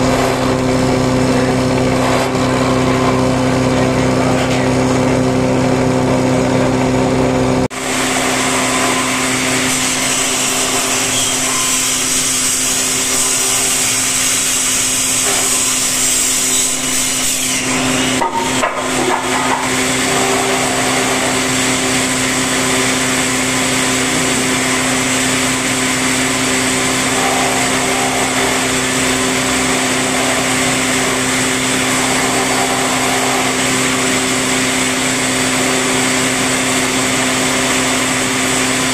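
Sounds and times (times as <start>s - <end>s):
mortising machine humming: 0.0s - 38.9s
bit milling wood: 7.7s - 38.9s.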